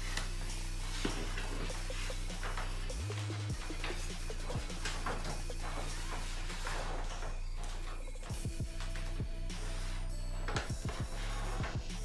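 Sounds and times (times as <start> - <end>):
music with deep bass line: 0.0 - 12.0.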